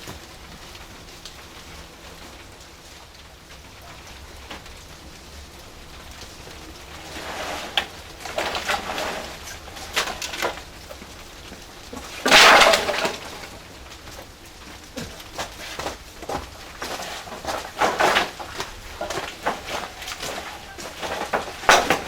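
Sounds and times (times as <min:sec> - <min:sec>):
fire crackling and popping: 0:00.0 - 0:22.0
rushing burst of fire: 0:00.0 - 0:22.0.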